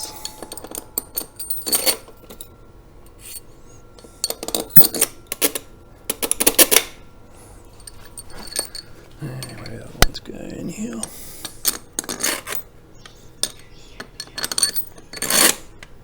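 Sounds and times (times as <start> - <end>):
metal bolts clinking and rattling: 0.0 - 6.9, 7.7 - 10.2, 11.4 - 15.8.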